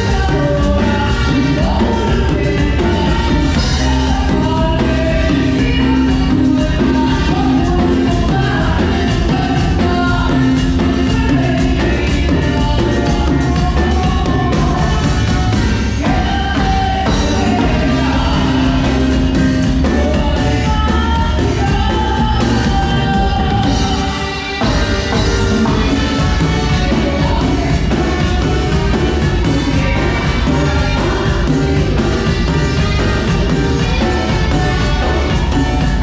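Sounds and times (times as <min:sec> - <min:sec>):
drums: 0:00.0 - 0:36.0
live band music: 0:00.0 - 0:36.0
person singing: 0:00.0 - 0:36.0.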